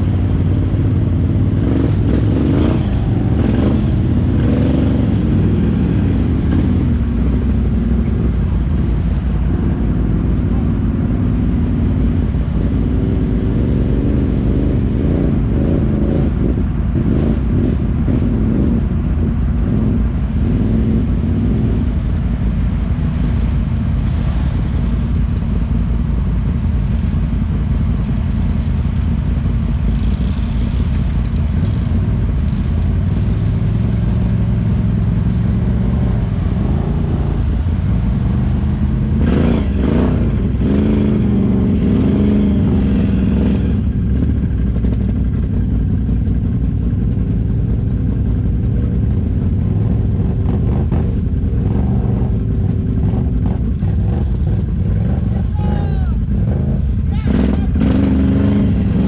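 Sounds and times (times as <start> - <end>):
atv engine revving: 0.0 - 22.2, 29.7 - 59.0.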